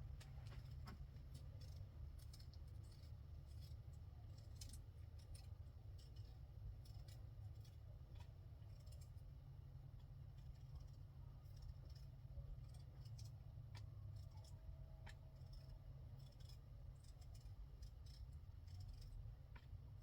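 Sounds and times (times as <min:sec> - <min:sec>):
low steady rumble: 0:00.0 - 0:20.0
small clicks and snips: 0:00.0 - 0:20.0.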